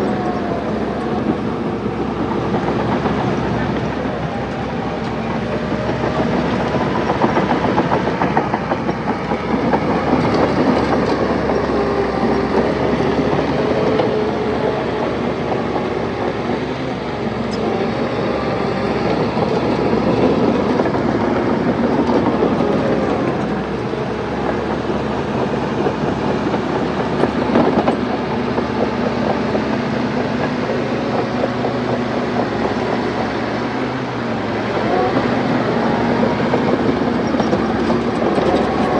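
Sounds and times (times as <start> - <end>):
bulldozer diesel engine: 0.0 - 38.9
steel tracks clattering: 0.0 - 38.9.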